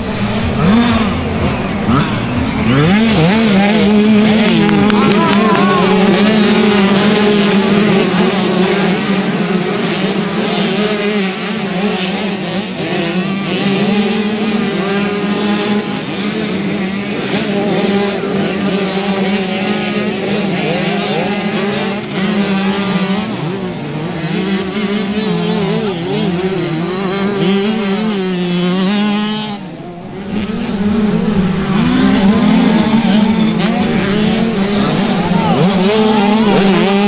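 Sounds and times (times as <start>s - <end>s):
motocross bike engines revving: 0.0s - 37.0s.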